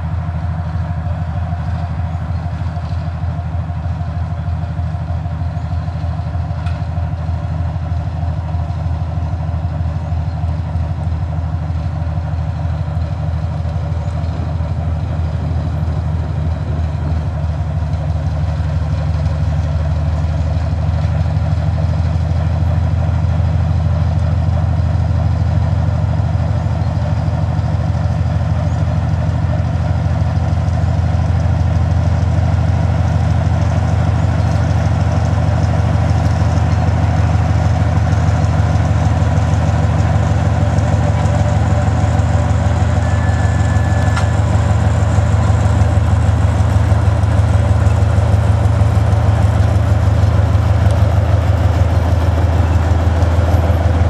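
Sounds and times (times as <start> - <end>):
locomotive diesel engines under load: 0.0 - 54.0.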